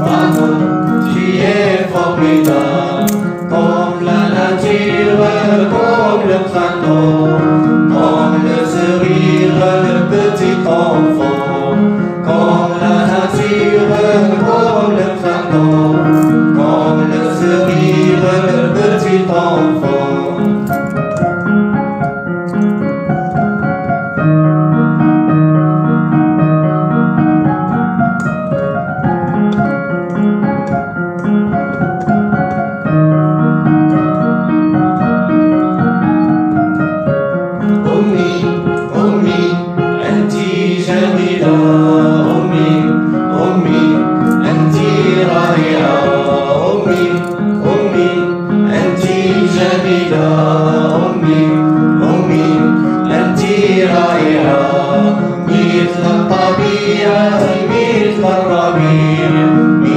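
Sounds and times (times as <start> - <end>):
electronic keyboard music: 0.0 - 59.9.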